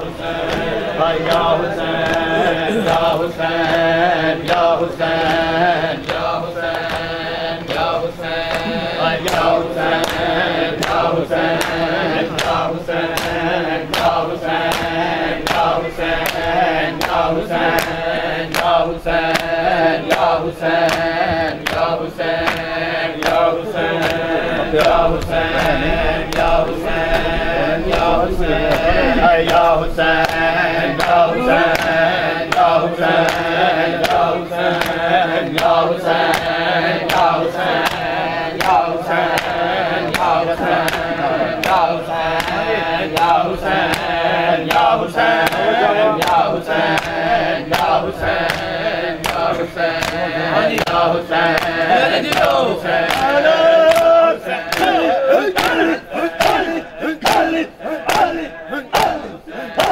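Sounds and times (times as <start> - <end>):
men chanting in unison: 0.0 - 59.9
hands slapping bare chests: 0.3 - 59.9.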